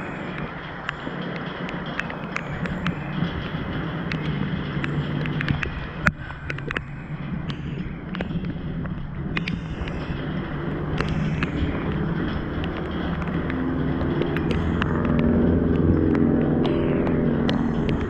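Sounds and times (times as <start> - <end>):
heavy rain pouring: 0.0 - 18.0
raindrops tapping near microphone: 0.0 - 18.0.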